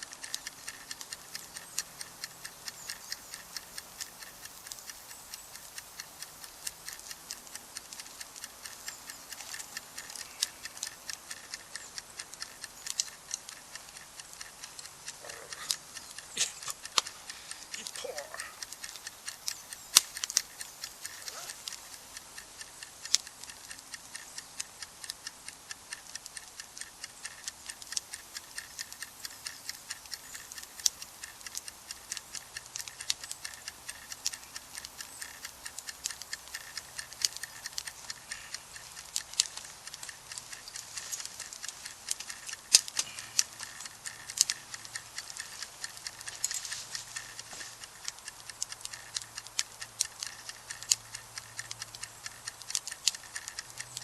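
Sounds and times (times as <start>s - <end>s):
faint hiss of burning: 0.0s - 54.0s
campfire crackling and popping: 2.6s - 25.1s, 25.7s - 54.0s.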